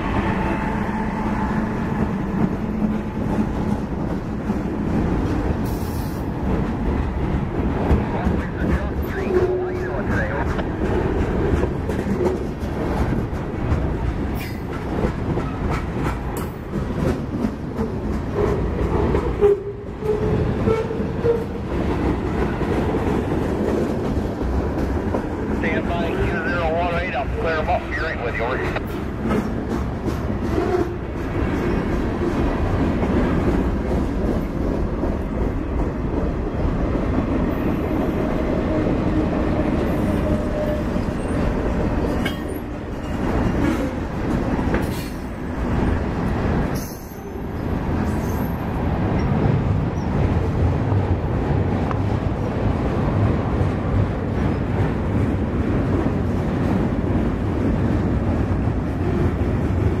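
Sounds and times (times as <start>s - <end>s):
train wheels on rails: 0.0s - 60.0s.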